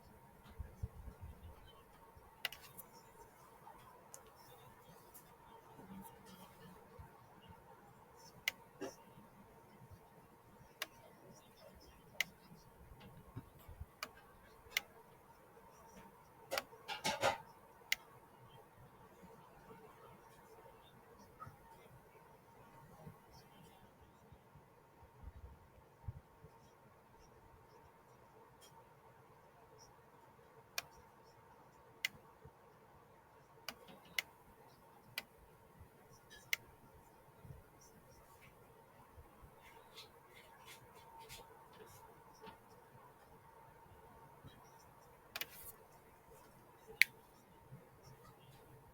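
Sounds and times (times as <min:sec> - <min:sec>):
faint steady hum: 0:00.0 - 0:48.9
quiet hiss: 0:00.0 - 0:48.9.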